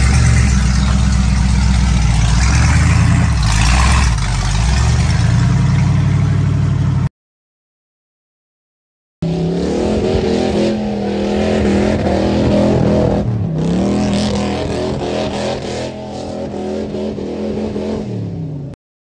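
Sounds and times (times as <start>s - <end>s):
truck engine revving hard: 0.0s - 7.1s, 9.2s - 18.8s.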